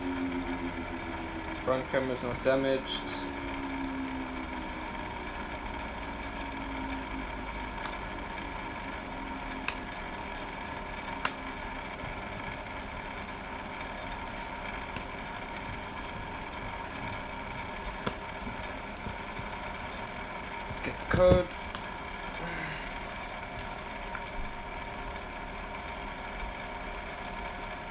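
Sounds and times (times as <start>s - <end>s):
electrical equipment hum: 0.0s - 27.9s.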